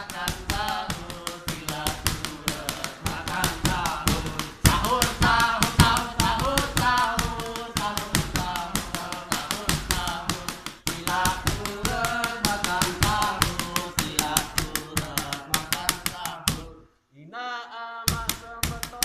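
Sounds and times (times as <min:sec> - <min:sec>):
hand-struck percussion: 0:00.0 - 0:16.9, 0:18.1 - 0:19.0
men singing into a microphone: 0:00.0 - 0:19.0.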